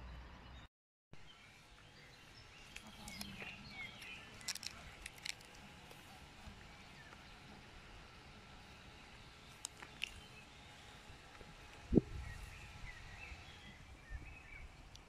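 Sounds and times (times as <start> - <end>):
small birds chirping: 1.2 - 15.0.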